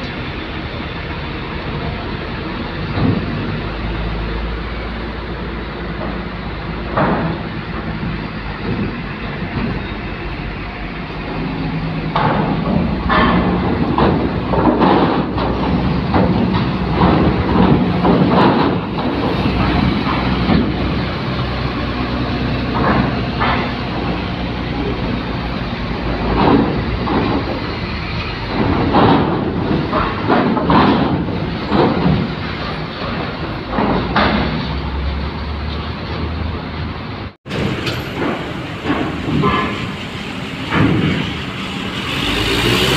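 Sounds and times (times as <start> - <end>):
diesel engines humming: 0.0 - 42.9
wheels clanking on steel plates: 0.0 - 42.9.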